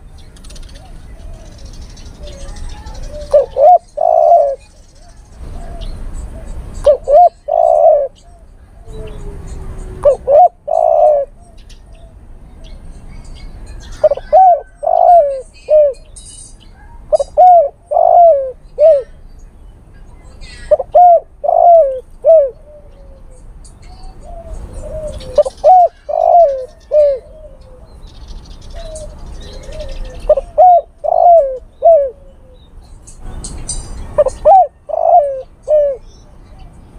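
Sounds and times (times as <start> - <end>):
dove cooing: 0.4 - 12.8, 13.9 - 16.1, 16.8 - 19.2, 20.4 - 33.2, 34.2 - 36.9.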